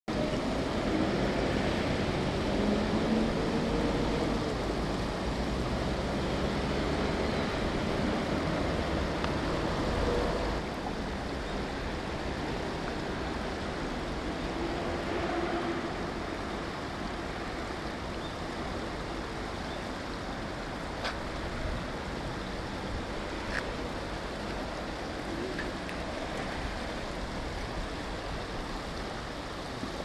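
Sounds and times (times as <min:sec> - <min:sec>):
river water rushing over concrete: 0:00.1 - 0:30.0.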